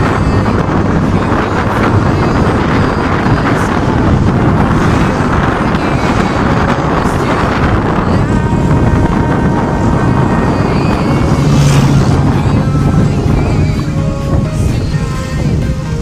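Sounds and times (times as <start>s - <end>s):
road noise: 0.0s - 16.0s
wind noise on microphone: 0.0s - 16.0s.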